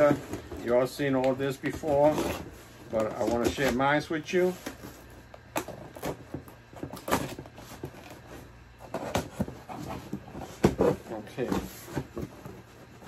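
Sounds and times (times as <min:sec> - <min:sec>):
cardboard box scraping and rustling: 0:00.0 - 0:13.0.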